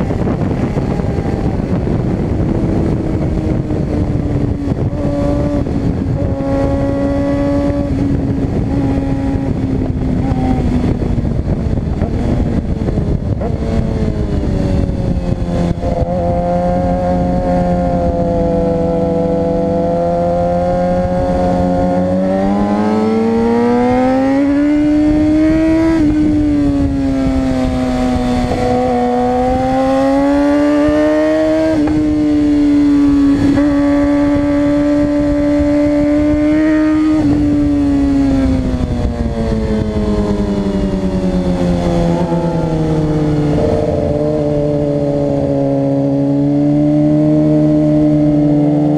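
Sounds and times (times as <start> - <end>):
sport bike engine running hard: 0.0 - 48.9.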